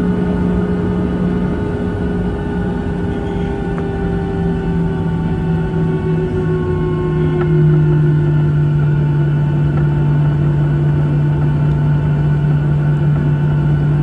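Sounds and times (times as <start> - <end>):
faint high engine tones: 0.0 - 14.0
jet engines humming: 0.0 - 14.0.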